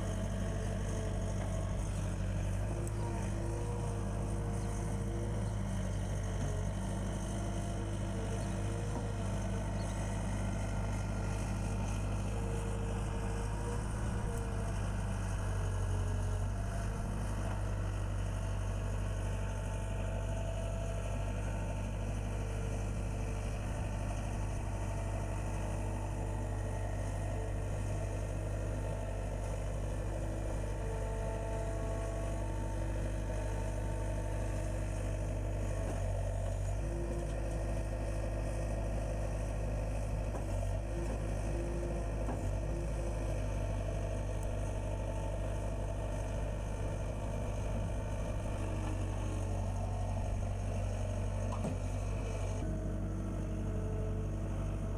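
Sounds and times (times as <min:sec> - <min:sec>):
loader diesel engine running: 0:00.0 - 0:54.9.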